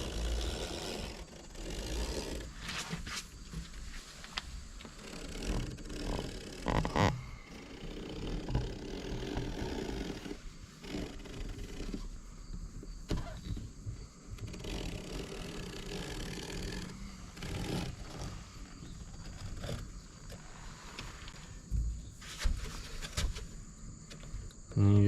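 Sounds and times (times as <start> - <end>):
rustling: 0.0 - 24.5.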